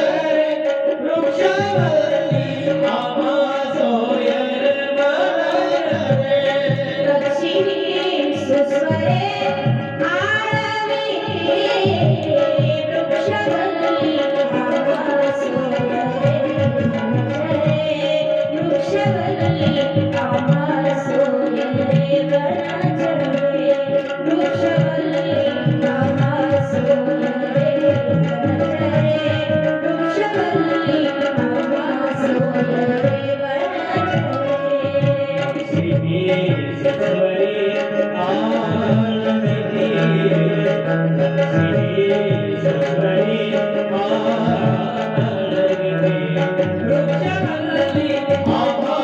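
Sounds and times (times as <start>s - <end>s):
tabla playing: 0.0s - 49.0s.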